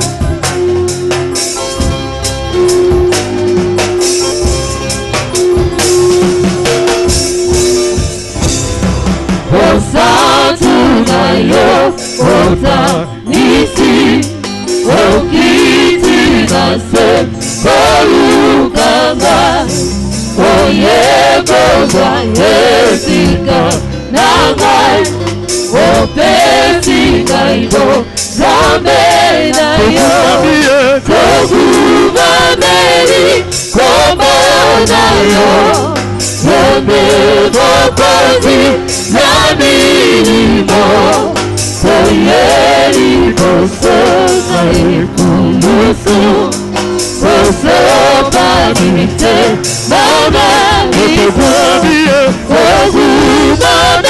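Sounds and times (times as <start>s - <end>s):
steady percussion beat: 0.0s - 54.0s
choir singing: 9.5s - 54.0s.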